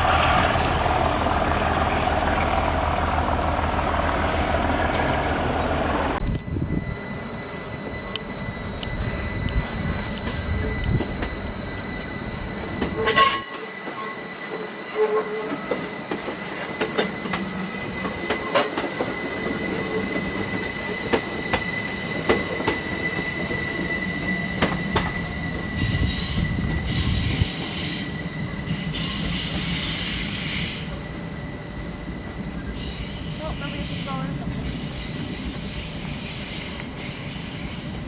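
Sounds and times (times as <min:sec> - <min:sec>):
train high-pitched squeal: 0:00.4 - 0:38.0.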